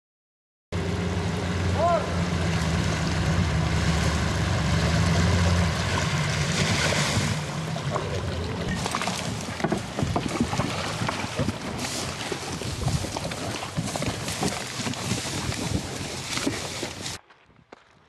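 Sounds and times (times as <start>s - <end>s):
outboard motor running: 0.8s - 17.2s
water rushing: 0.8s - 17.2s.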